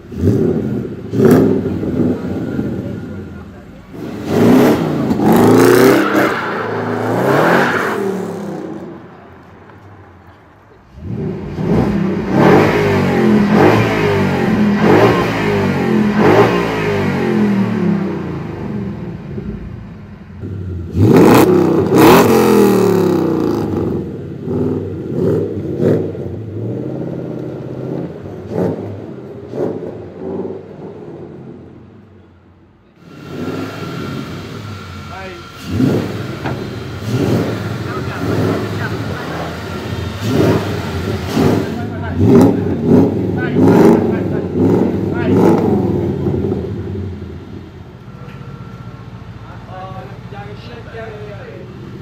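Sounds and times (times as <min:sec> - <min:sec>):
car engine revving: 0:00.0 - 0:09.9, 0:10.8 - 0:32.2, 0:32.9 - 0:52.0.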